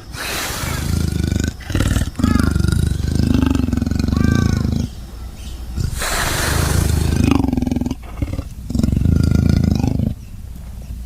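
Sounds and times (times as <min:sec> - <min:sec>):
big cat growling roar: 0:00.0 - 0:05.0, 0:05.8 - 0:10.2.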